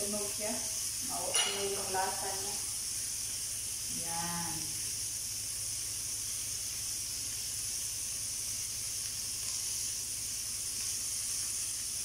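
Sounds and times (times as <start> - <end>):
meat sizzling in a grill pan: 0.0 - 12.0.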